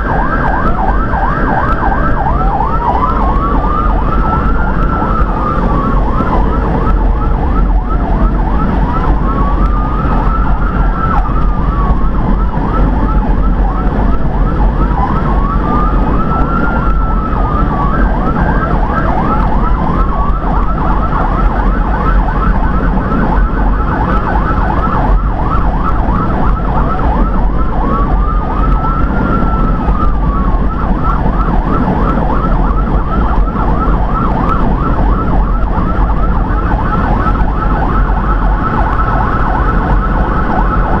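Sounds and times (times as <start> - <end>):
electronic siren wailing and yelping: 0.0 - 41.0
engine and road rumble: 0.0 - 41.0.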